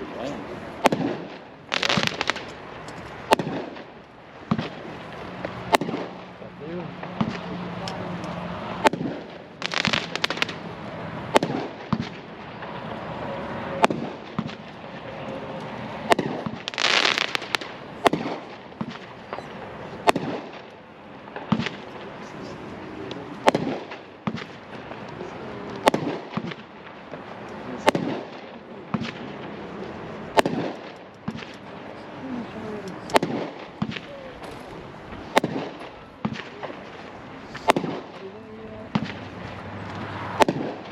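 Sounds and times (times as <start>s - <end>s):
firework crackling burst: 0.0s - 7.6s, 8.6s - 40.9s
firework shot reports: 0.0s - 39.5s.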